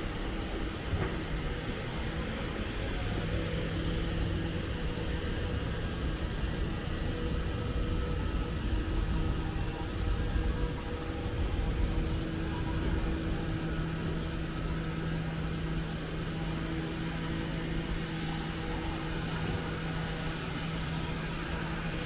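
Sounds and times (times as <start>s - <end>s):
constant mechanical hum: 0.0s - 22.0s.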